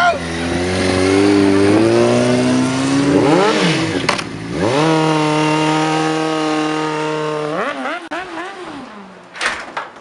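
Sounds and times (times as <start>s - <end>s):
motorcycle engine revving: 0.0s - 9.3s.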